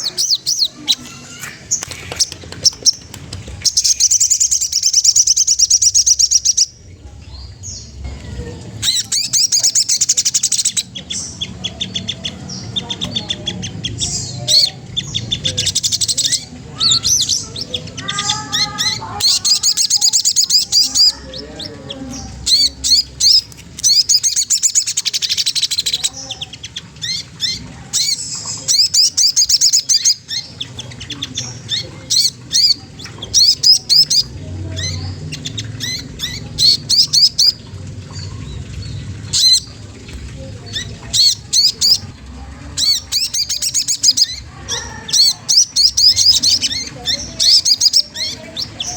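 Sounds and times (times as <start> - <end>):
songbird chattering: 0.0 - 48.9.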